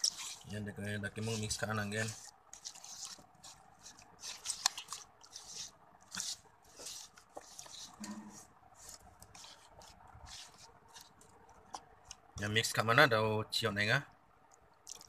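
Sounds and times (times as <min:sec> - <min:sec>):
hand squishing marinade into chicken: 0:00.0 - 0:13.2, 0:14.6 - 0:15.0.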